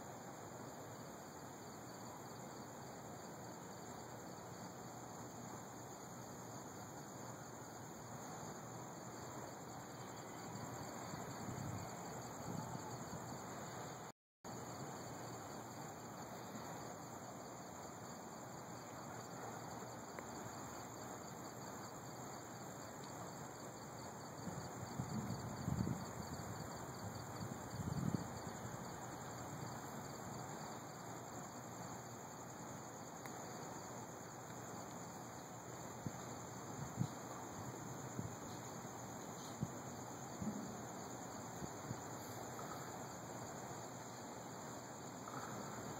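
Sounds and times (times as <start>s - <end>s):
crickets chirping: 0.0s - 45.9s
low hiss: 0.0s - 45.9s.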